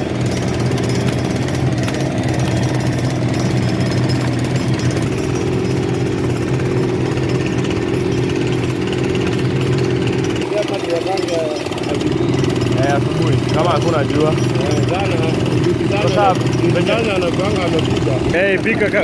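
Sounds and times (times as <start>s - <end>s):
power tool rattling: 0.0s - 19.0s.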